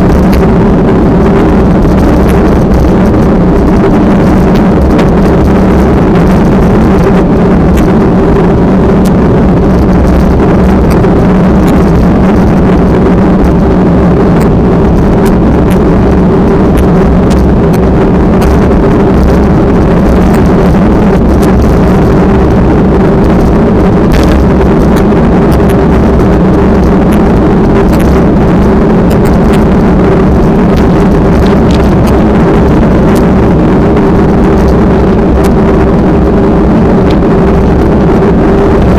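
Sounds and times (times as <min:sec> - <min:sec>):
loud steady engine drone: 0:00.0 - 0:38.9
wind noise on microphone: 0:00.0 - 0:38.9.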